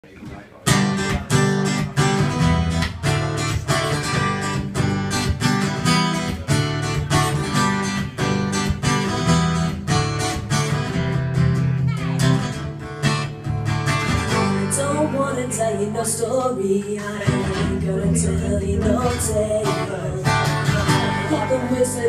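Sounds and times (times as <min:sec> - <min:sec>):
acoustic guitar strumming: 0:00.6 - 0:22.0.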